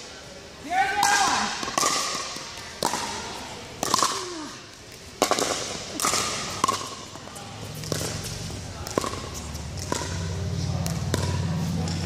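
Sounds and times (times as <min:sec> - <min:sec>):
ball bouncing on court: 0:01.0 - 0:04.4, 0:05.2 - 0:12.0
paddles hitting plastic ball: 0:01.0 - 0:12.0.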